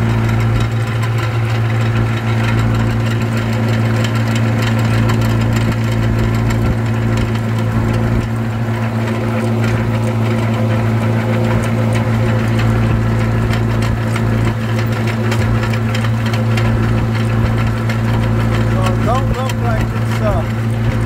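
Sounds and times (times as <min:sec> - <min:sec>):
auger rattling in rocky ground: 0:00.0 - 0:21.0
tractor engine running: 0:00.0 - 0:21.0.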